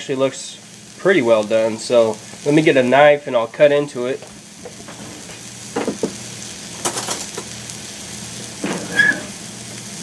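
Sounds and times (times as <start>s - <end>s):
steak sizzling on grill: 0.0s - 10.0s.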